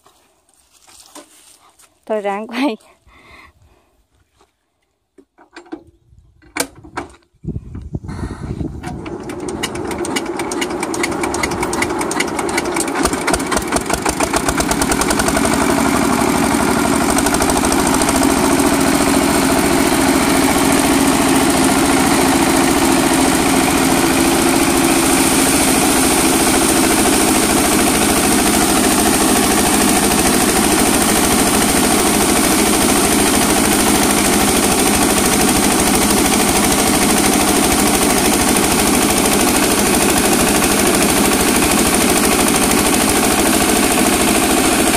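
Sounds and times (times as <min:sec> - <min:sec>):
diesel engine running: 0:08.8 - 0:44.9
huller machine running: 0:08.8 - 0:44.9.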